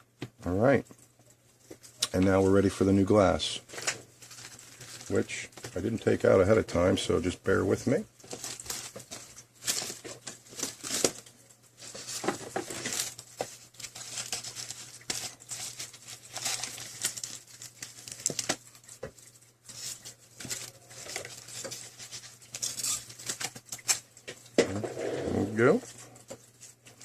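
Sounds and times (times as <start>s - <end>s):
packaging crinkling and rustling: 0.7s - 27.0s.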